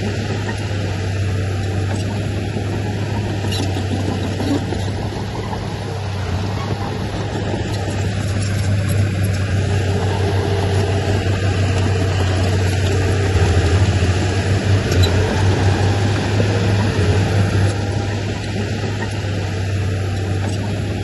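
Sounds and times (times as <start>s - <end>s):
heavy diesel engine drone: 0.0s - 21.0s.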